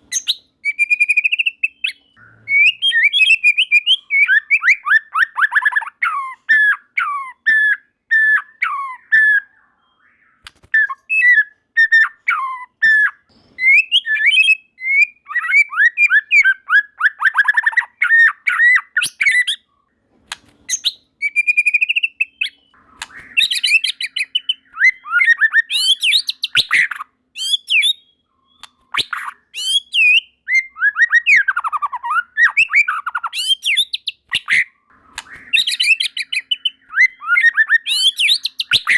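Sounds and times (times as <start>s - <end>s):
bird singing whistled song: 0.0s - 19.8s, 20.6s - 38.9s.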